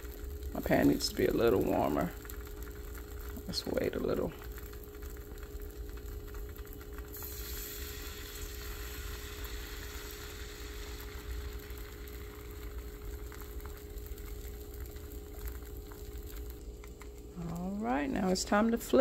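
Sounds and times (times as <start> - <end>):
batter sizzling in a frying pan: 0.0 - 19.0
steady low hum: 0.0 - 19.0.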